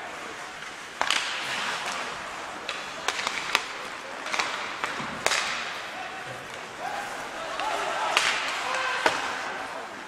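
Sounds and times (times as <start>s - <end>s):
hockey sticks clacking on puck: 0.4s - 10.0s.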